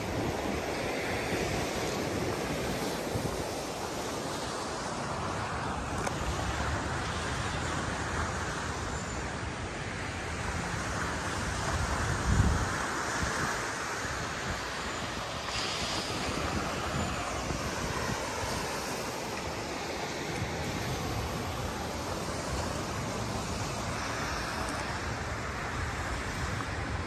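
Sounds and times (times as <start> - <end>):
surf breaking on beach: 0.0 - 27.0
wind buffeting microphone: 0.0 - 27.0.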